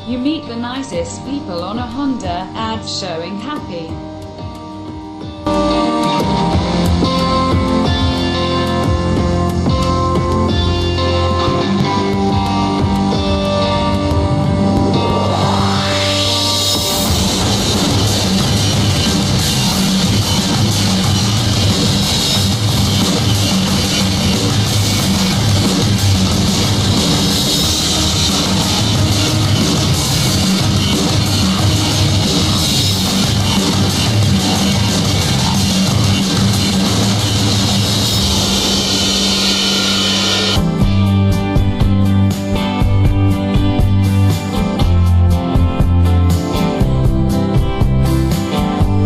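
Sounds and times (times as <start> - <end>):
rock music with drums and guitar: 0.0 - 49.0.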